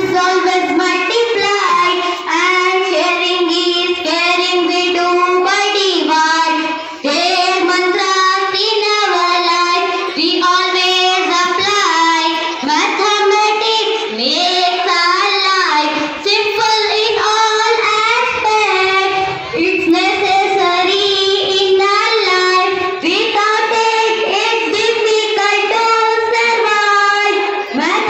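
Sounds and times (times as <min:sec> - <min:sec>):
child singing: 0:00.0 - 0:28.0.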